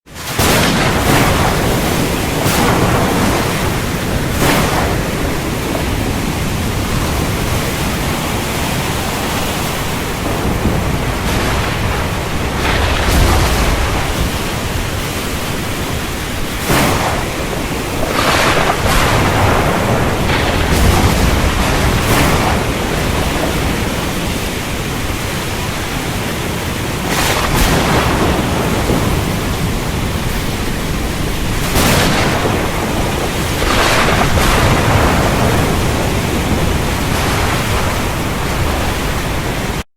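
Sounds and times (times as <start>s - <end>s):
thunder cracks: 0.1s - 39.8s
wind and water rushing: 0.1s - 39.8s
low thunder rumbles: 0.2s - 39.8s.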